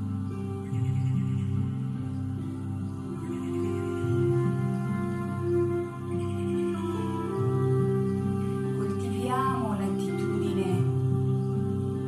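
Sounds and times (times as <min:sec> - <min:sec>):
slow calm background music: 0:00.0 - 0:12.0.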